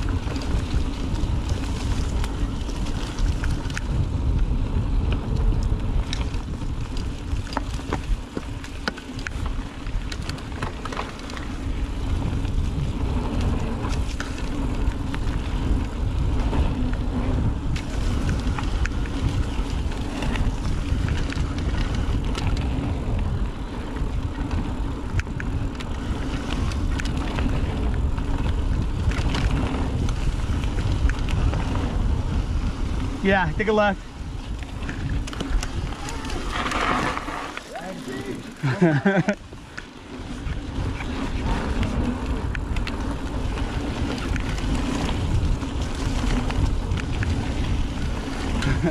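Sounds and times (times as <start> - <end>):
bike clicks and rattles: 0.0 - 48.9
tyres rumbling on dirt: 0.0 - 48.9
wind on microphone: 0.0 - 48.9.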